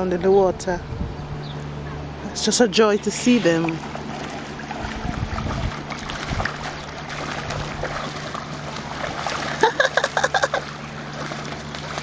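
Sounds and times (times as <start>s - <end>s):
low hum: 0.0s - 12.0s
water splashing and trickling: 2.3s - 12.0s.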